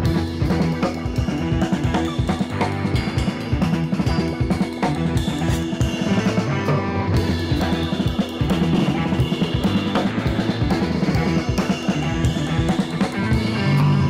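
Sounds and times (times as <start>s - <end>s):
rock music with drums and guitar: 0.0s - 14.0s.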